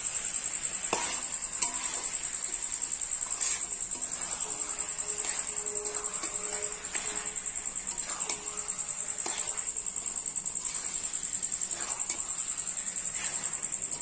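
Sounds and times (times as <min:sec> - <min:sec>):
high insect trill: 0:00.0 - 0:14.0
spatula scraping metal pan: 0:00.0 - 0:14.0.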